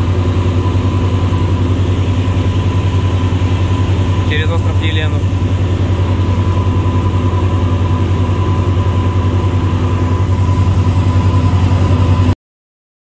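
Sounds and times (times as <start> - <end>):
motor boat engine droning: 0.0 - 12.4
rushing wake and air: 0.0 - 12.4
thin steady whine: 0.0 - 12.4.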